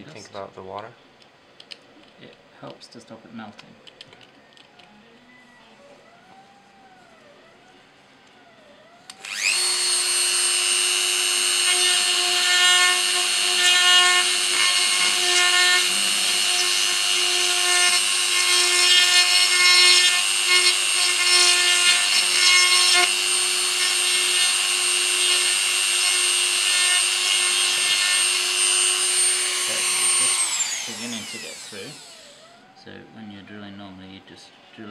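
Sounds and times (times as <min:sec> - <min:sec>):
rotary tool whining: 0:04.2 - 0:33.0.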